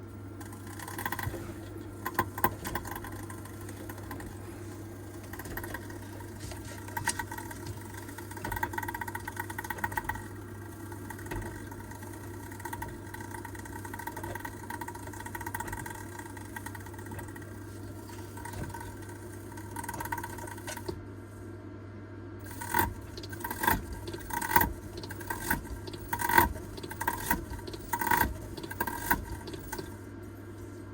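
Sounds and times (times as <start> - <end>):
washer-dryer humming and whining: 0.0 - 30.9.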